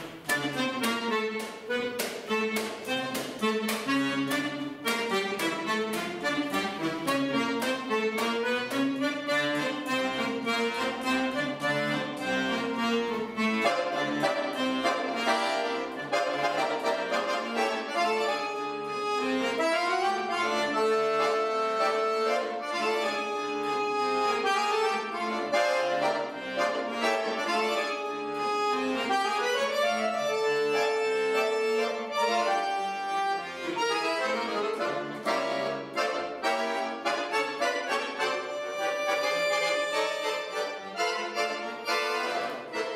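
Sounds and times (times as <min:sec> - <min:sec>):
piano accordion solo: 0:00.0 - 0:42.9.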